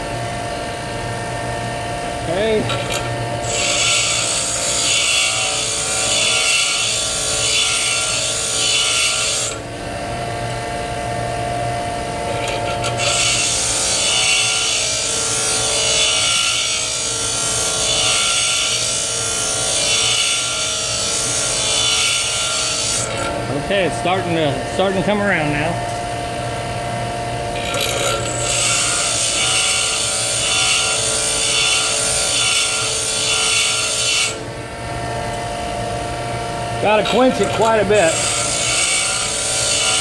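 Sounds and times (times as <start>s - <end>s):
bench grinder grinding metal: 0.0s - 40.0s
grinder motor hum: 0.0s - 40.0s.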